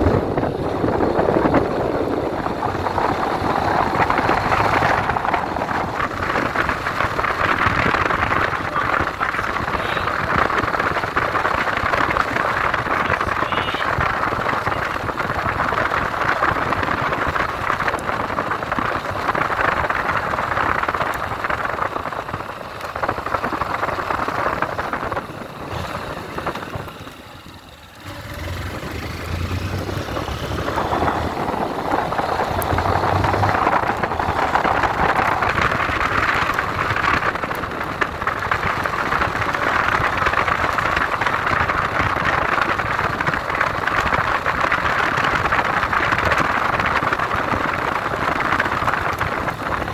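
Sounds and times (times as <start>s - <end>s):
motorcycle engine: 0.0s - 49.9s
wind rushing on microphone: 0.0s - 49.9s.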